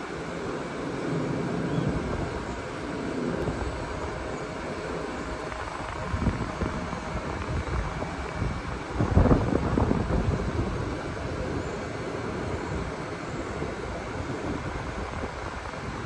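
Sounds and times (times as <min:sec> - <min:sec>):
faint steady whines: 0:00.0 - 0:16.0
train equipment drone: 0:00.0 - 0:16.0
wind gusts on microphone: 0:00.0 - 0:16.0.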